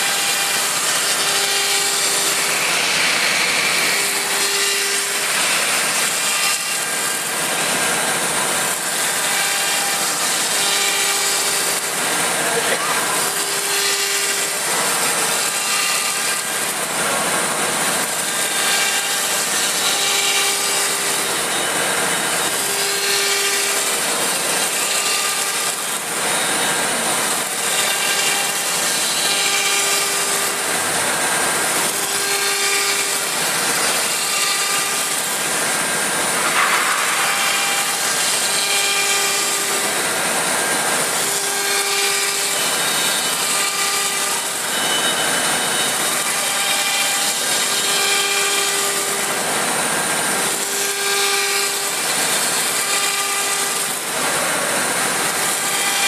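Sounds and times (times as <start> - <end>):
router spindle cutting: 0.0 - 56.0.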